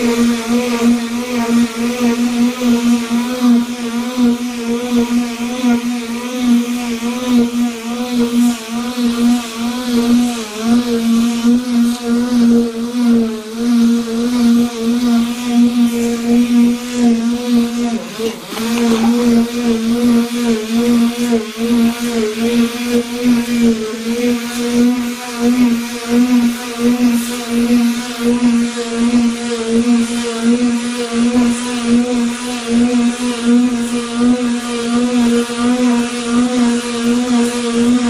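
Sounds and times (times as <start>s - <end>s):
electric sander whining on wood: 0.0s - 38.0s.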